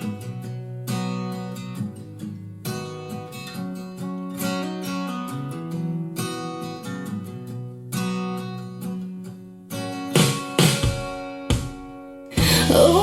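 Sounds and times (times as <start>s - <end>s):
pop song with strummed acoustic guitar: 0.0s - 13.0s.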